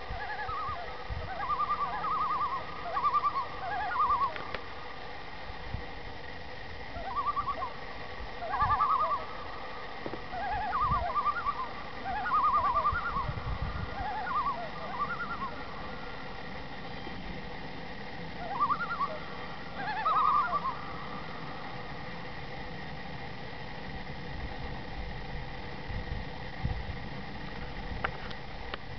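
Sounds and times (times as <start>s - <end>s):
loons tremolo call: 0.0s - 5.5s, 6.2s - 25.9s.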